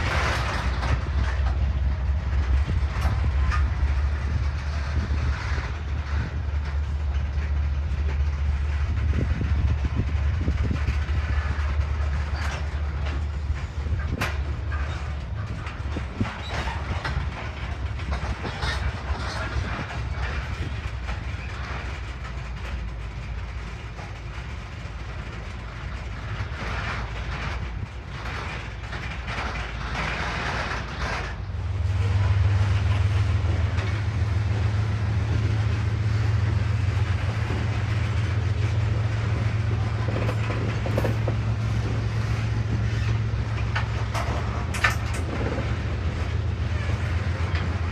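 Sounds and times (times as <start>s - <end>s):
train wheels clattering over rails: 0.0s - 47.9s.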